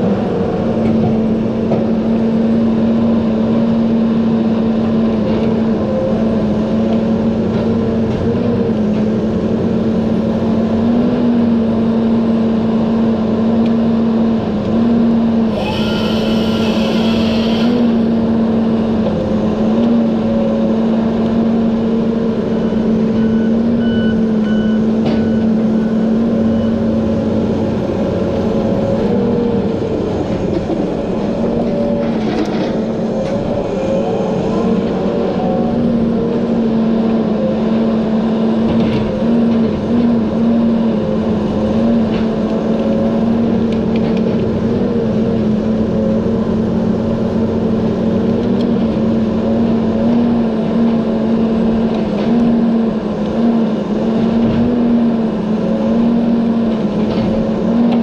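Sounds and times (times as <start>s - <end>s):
diesel engine running at high revs: 0.0s - 58.0s.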